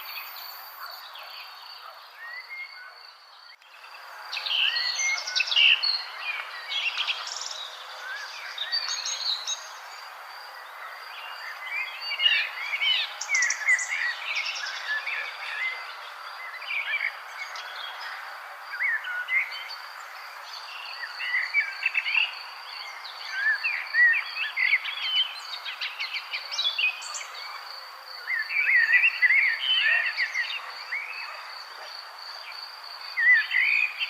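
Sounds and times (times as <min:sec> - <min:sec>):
soft outdoor hiss: 0:00.0 - 0:34.0.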